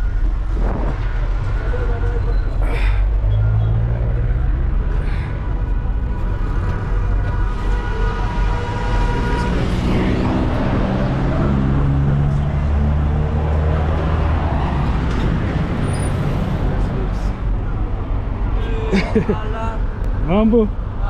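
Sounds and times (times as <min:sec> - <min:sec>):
minibus engine and road noise: 0:00.0 - 0:21.0.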